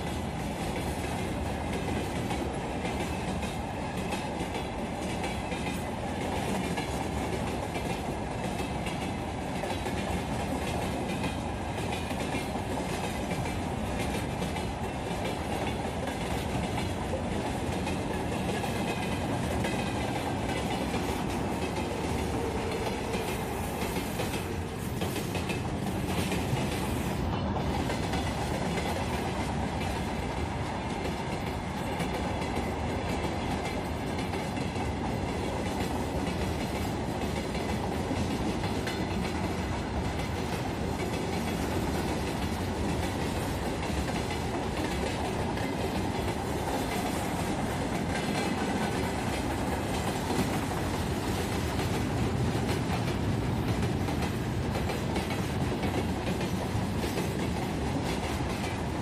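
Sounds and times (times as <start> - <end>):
freight train wagons rolling past: 0.0 - 59.0.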